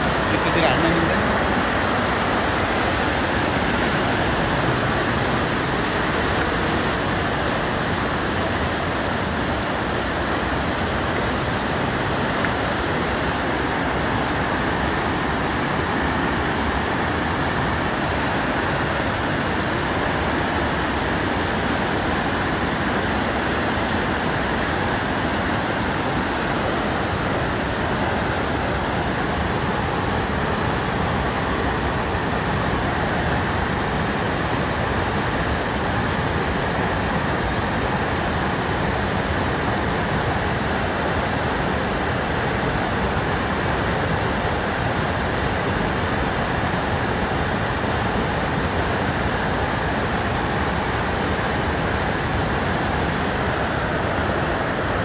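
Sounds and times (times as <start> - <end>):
fast river rushing: 0.0 - 55.0.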